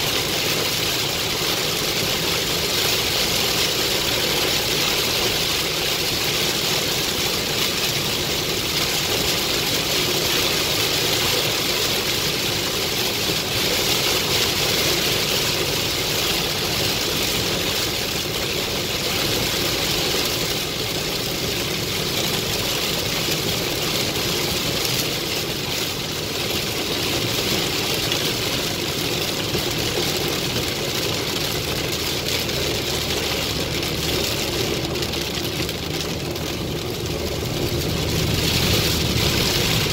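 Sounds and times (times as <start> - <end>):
heavy rain on car roof: 0.0 - 39.9
tyre noise on wet road: 0.0 - 39.9.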